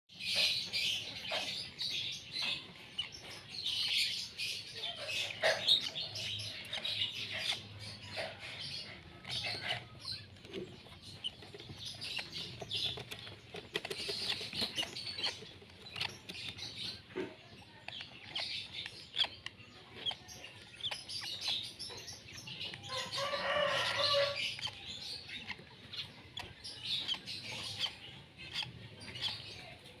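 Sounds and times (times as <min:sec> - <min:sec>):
birds chirping and chattering: 0:00.1 - 0:30.0.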